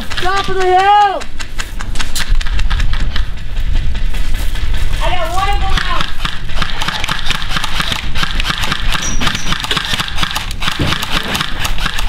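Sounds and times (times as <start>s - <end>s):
wind rumble on microphone: 0.0s - 11.8s
running footsteps on grass: 0.0s - 12.0s.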